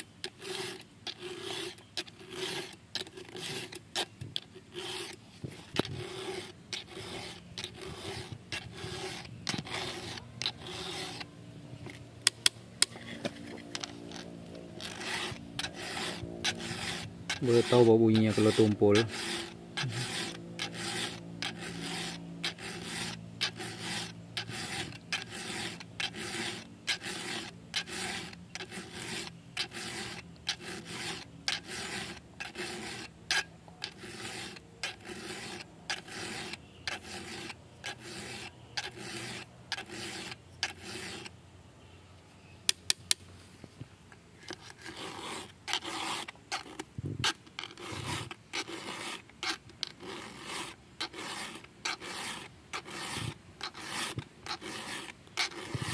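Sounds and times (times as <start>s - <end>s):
file rasping on chainsaw chain: 0.0s - 11.3s, 13.6s - 41.3s, 44.5s - 55.9s.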